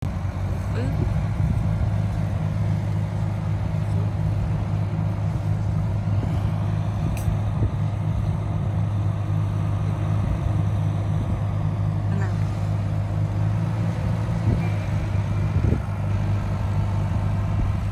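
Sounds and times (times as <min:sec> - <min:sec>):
heavy diesel engine humming: 0:00.0 - 0:17.9.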